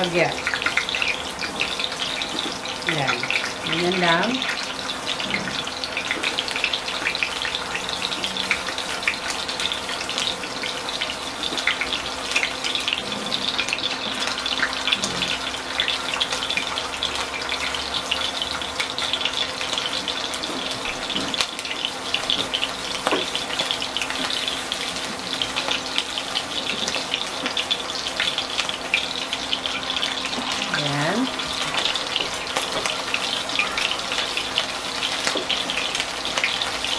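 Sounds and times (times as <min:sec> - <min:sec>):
meatballs sizzling in oil: 0:00.0 - 0:36.9.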